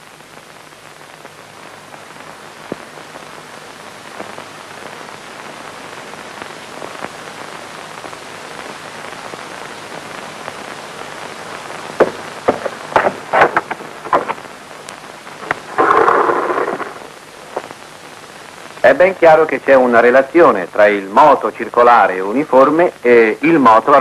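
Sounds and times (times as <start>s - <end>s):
crackles and pops: 0.0s - 24.0s
film soundtrack hiss: 0.0s - 24.0s.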